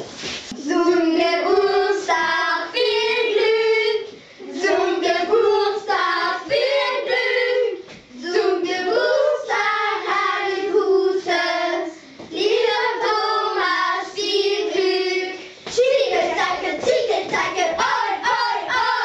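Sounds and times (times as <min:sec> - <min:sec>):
children singing together: 0:00.5 - 0:19.0.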